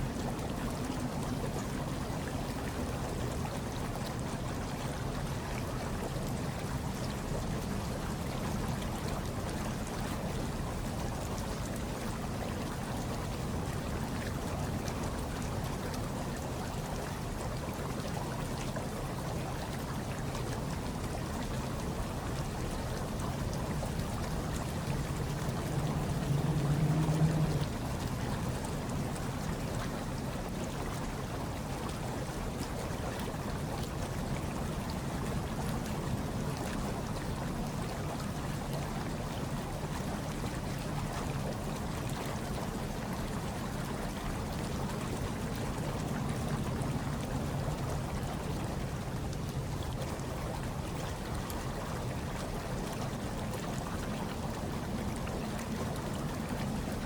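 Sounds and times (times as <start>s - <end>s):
hot tub water churning: 0.0s - 57.0s.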